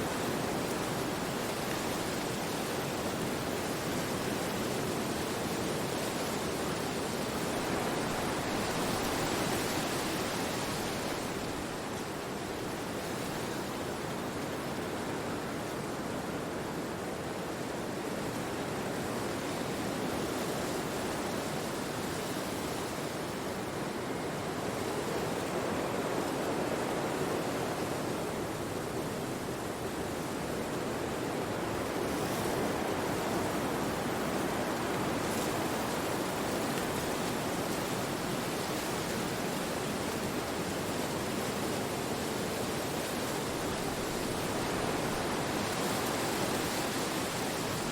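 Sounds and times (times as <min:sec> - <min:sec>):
wind rushing through trees: 0:00.0 - 0:47.9.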